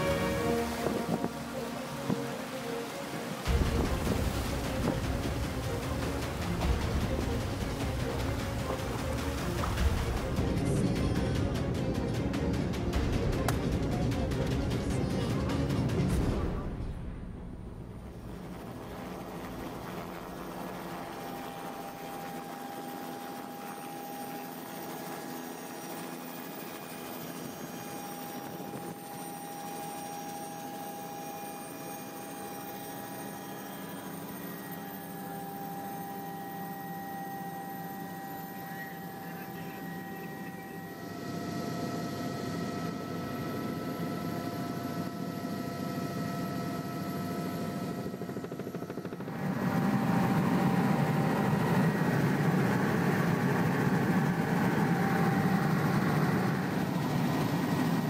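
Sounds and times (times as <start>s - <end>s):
helicopter engine and rotor drone: 0.0s - 16.9s, 17.7s - 58.0s.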